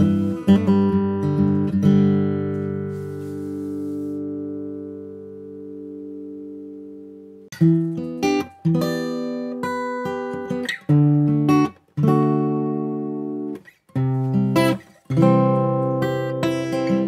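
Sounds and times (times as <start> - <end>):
acoustic guitar fingerpicked chords: 0.0 - 17.0.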